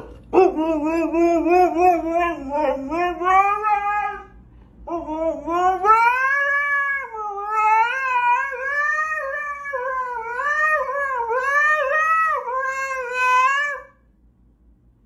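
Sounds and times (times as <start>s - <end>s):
dog howling: 0.0s - 14.0s.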